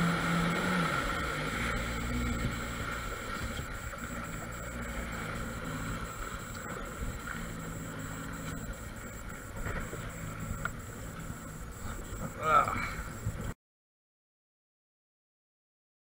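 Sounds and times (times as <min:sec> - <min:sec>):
churning water: 0:00.0 - 0:13.5
jet ski engine humming: 0:00.0 - 0:13.6
wind: 0:00.0 - 0:13.6.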